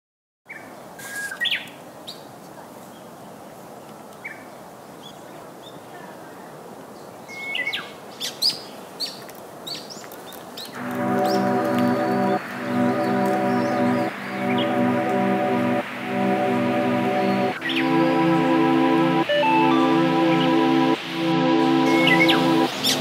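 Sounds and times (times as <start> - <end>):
steady background hiss: 0.6 - 23.0
birds chirping: 2.9 - 23.0.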